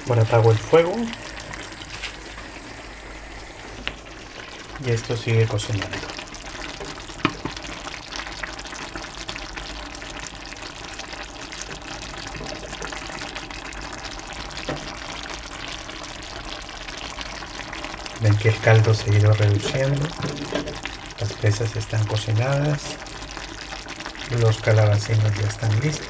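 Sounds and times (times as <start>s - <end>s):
stew simmering and crackling: 0.0s - 26.0s.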